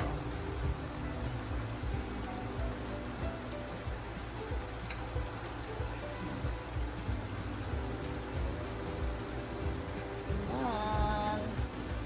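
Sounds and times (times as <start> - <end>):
quiet background music: 0.0 - 12.0
shrimp sizzling in a pan: 0.0 - 12.0.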